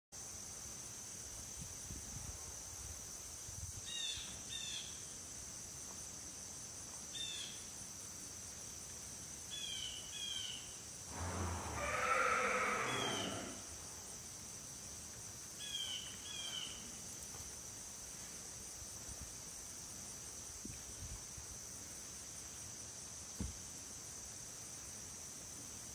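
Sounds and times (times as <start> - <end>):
high insect drone: 0.2 - 25.9.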